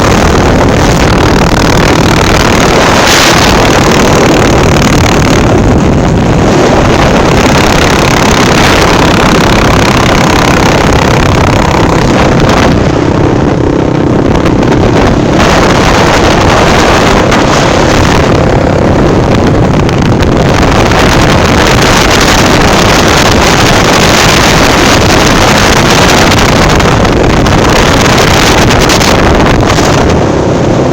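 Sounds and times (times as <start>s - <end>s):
motorcycle engine running: 0.0s - 30.9s
wind buffeting microphone: 0.0s - 30.9s.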